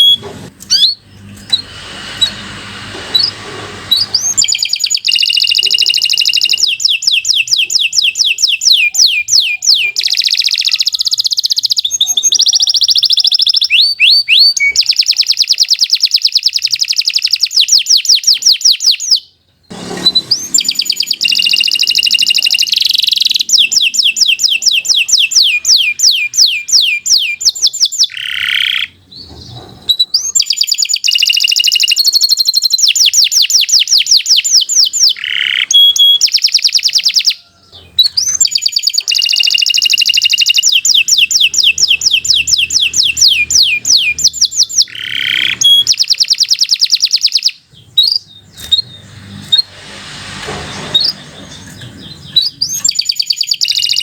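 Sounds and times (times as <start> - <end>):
canary singing trills: 0.0 - 2.5, 3.1 - 49.8, 50.9 - 54.0.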